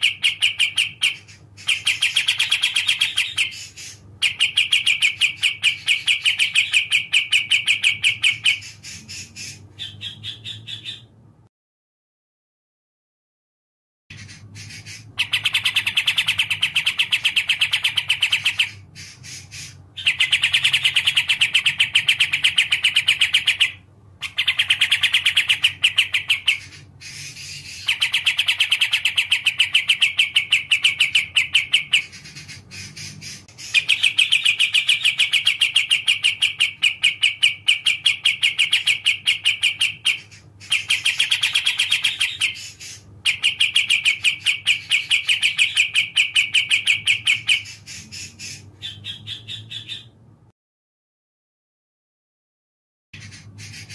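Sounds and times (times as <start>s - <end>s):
bird chattering song: 0.0s - 11.3s, 14.1s - 50.3s, 53.2s - 53.9s.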